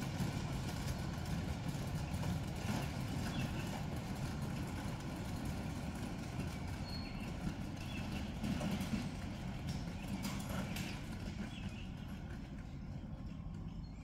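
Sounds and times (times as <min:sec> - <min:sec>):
train wheels rumbling on track: 0:00.0 - 0:14.0
wheels clicking over rail joints: 0:00.0 - 0:14.0.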